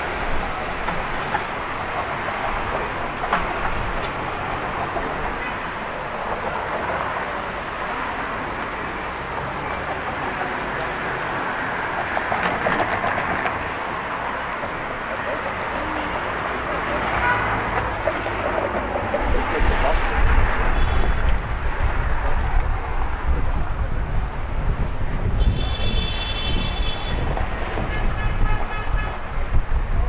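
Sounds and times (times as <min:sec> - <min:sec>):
passers-by: 0:00.0 - 0:30.0
traffic: 0:00.0 - 0:30.0.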